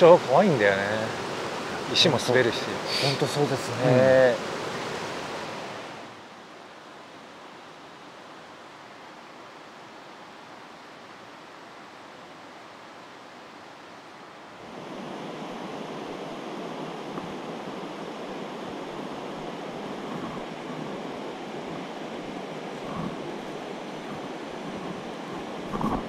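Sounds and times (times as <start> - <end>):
rushing river water: 0.0 - 26.0.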